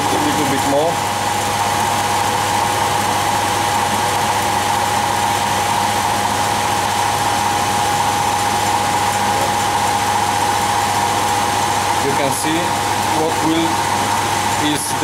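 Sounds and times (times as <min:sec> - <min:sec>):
air conditioning compressor whine: 0:00.0 - 0:15.0.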